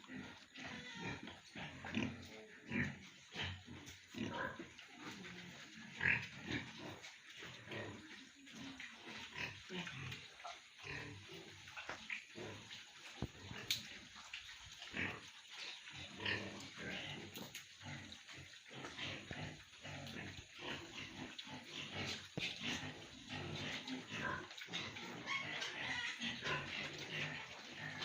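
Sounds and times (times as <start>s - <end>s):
pigs grunting: 0.0s - 28.0s.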